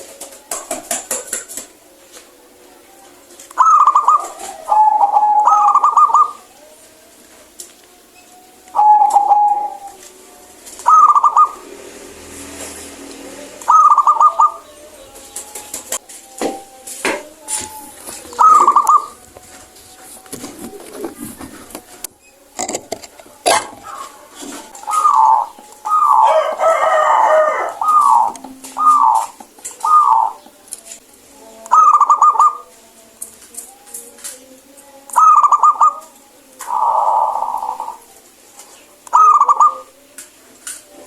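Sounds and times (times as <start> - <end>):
dove cooing: 0.0 - 32.8, 35.1 - 40.2.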